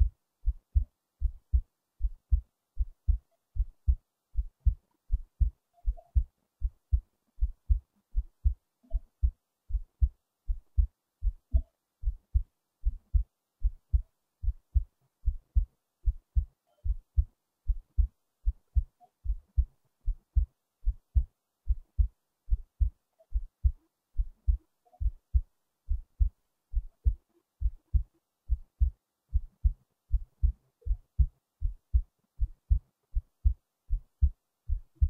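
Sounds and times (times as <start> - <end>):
heartbeat thumps: 0.0 - 35.0.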